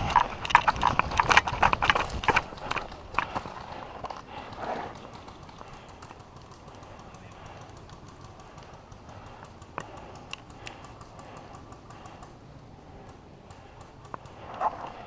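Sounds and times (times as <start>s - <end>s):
faint scattered clicks: 0.0s - 15.0s.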